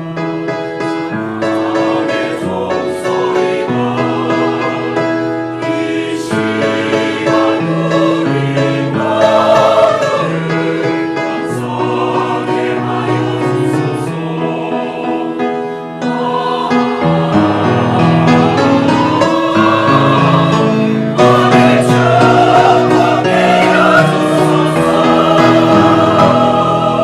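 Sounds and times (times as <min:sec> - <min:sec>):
choir singing a hymn: 0:00.0 - 0:27.0.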